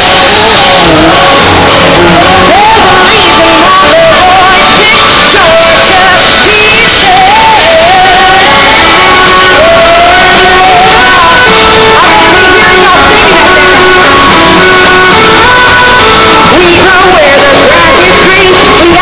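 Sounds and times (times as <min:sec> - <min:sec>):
crowd shouting and cheering: 0:00.0 - 0:19.0
live band playing: 0:00.0 - 0:19.0
woman singing: 0:00.0 - 0:19.0.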